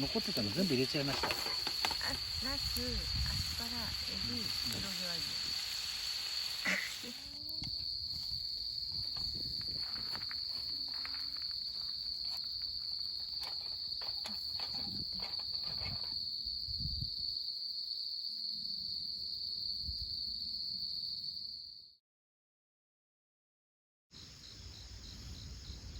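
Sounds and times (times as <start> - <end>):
crickets trilling: 0.0 - 21.8, 24.2 - 25.9.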